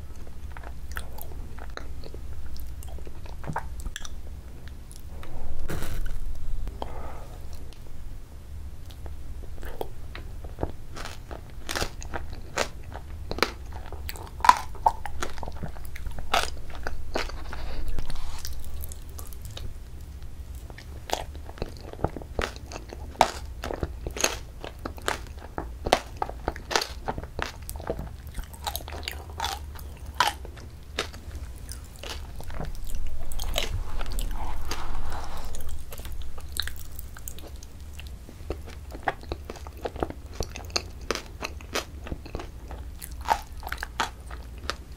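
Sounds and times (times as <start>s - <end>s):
chewing and crunching: 0.0s - 7.8s, 8.8s - 44.9s.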